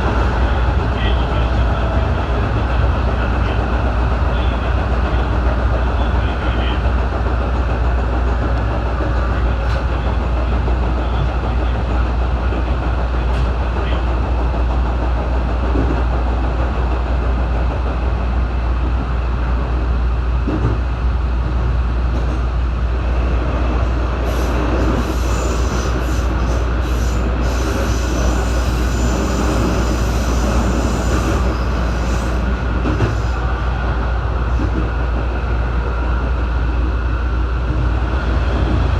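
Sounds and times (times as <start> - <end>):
electric train rumble: 0.0 - 38.9.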